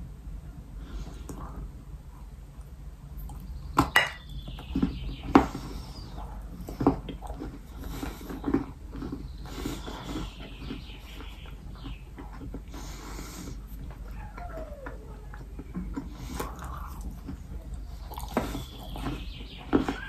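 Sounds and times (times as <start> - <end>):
crunching and chewing cookies: 0.5 - 20.0.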